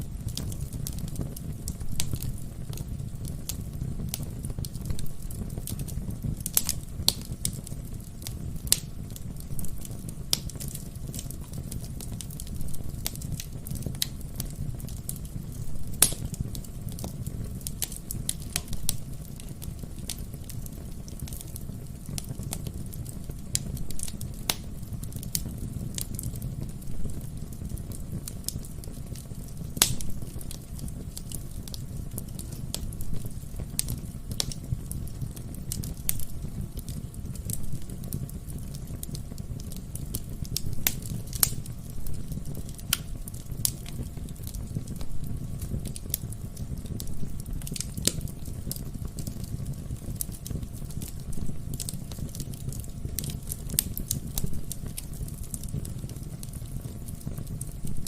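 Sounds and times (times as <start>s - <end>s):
fire rumbling: 0.0s - 58.0s
logs crackling and popping: 0.0s - 58.0s.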